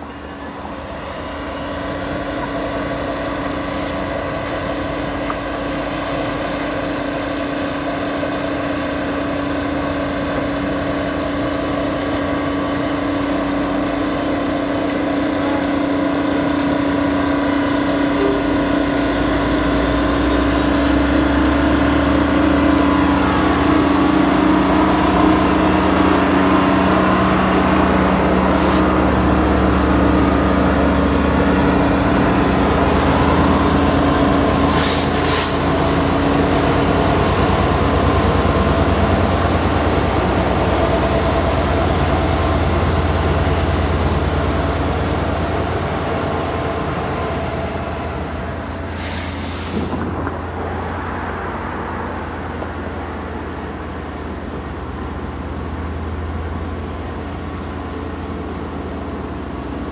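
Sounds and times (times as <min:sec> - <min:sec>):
train diesel engines running: 0:00.0 - 0:59.9.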